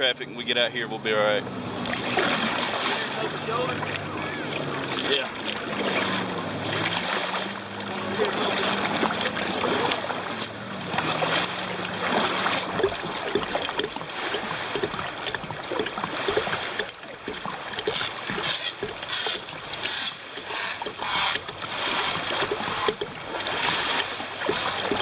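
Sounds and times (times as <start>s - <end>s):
distant motorboat engine hum: 0.0s - 25.0s
kayak paddle splashing: 1.0s - 25.0s.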